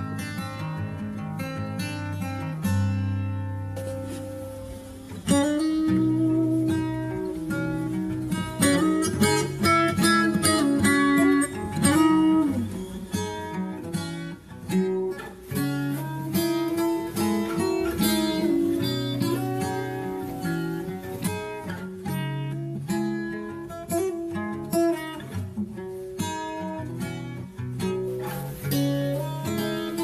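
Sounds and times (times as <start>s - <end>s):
guitar plucked and strummed: 0.0s - 30.0s.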